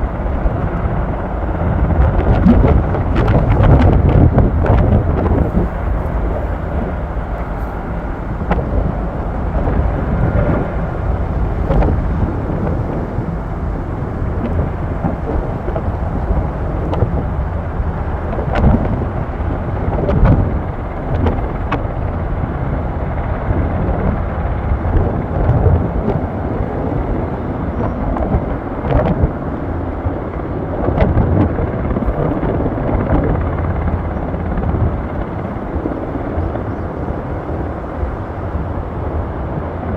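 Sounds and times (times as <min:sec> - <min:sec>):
helicopter droning: 0:00.0 - 0:39.9
wind buffeting microphone: 0:00.0 - 0:39.9.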